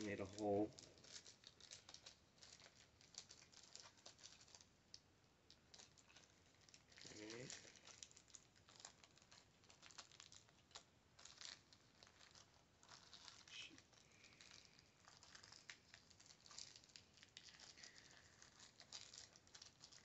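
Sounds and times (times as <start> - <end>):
paper wrapper crinkling and tearing: 0.0 - 20.0.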